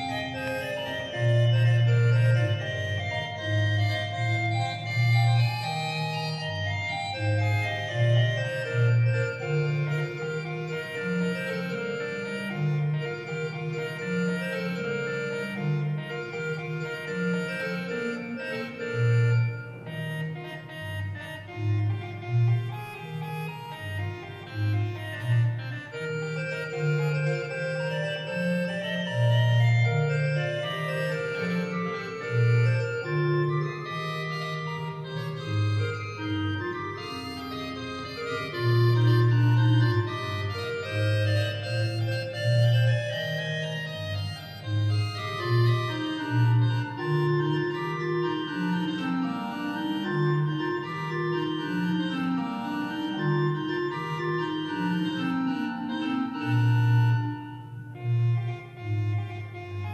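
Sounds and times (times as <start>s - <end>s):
church pipe organ playing: 0.0s - 59.9s.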